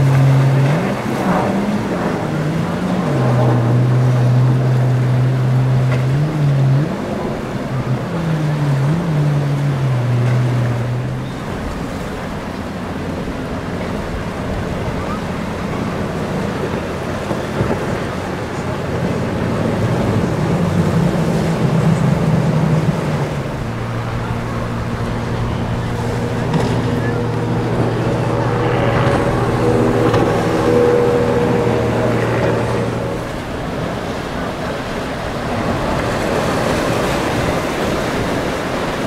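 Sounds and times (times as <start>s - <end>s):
motorboat engines droning: 0.0s - 39.0s
surf: 0.0s - 39.0s
wind: 0.0s - 39.0s.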